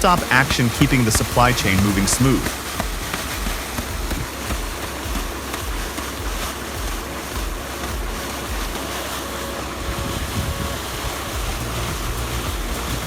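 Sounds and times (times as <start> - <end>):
low uneven rumble: 0.0 - 13.0
machinery rushing noise: 0.0 - 13.0.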